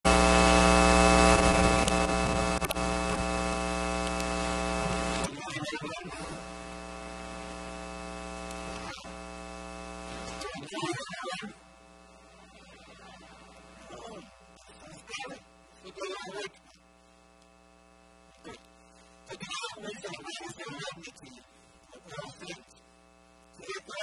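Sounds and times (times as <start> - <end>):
electrical mains hum: 0.1 - 24.0.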